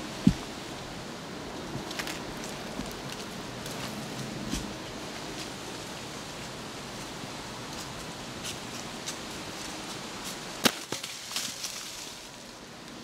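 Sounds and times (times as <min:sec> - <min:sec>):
outdoor rustling hiss: 0:00.0 - 0:13.0.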